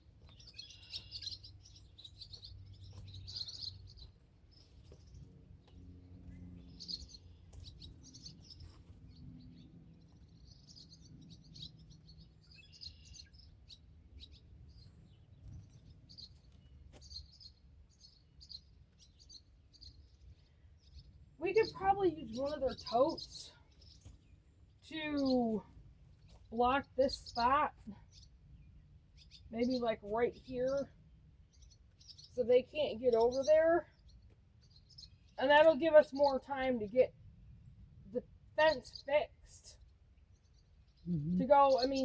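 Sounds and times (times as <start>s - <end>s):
faint bird chirping: 0.0s - 42.0s.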